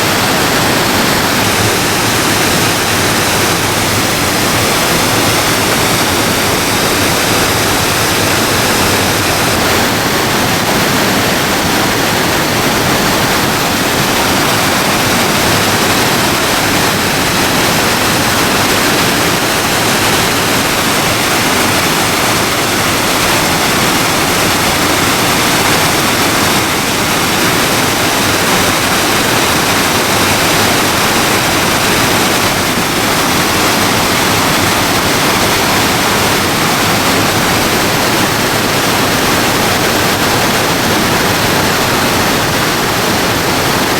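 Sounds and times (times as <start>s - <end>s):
rushing river water: 0.0s - 43.9s.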